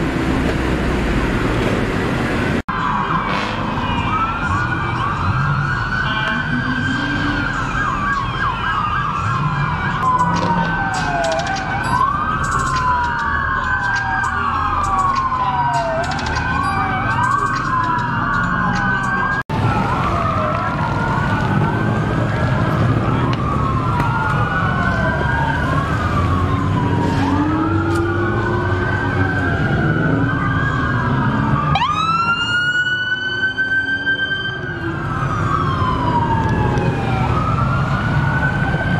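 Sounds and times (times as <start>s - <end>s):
low rumble of engines: 0.0s - 38.9s
police sirens wailing: 0.0s - 38.9s.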